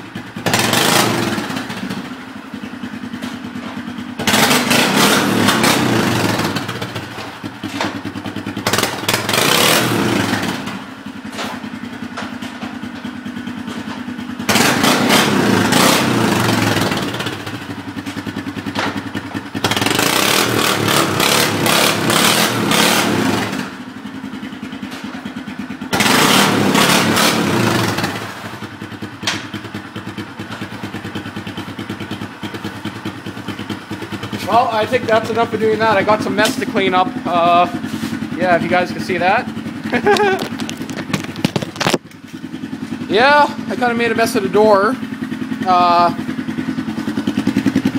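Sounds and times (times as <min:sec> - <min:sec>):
atv engine idling: 0:00.0 - 0:47.9
atv engine revving: 0:00.0 - 0:47.9.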